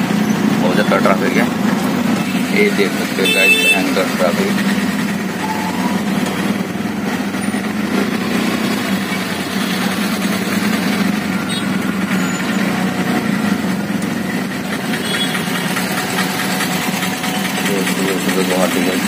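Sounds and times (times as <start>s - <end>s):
auto-rickshaw engine idling: 0.0s - 19.0s
traffic hum: 0.0s - 19.0s.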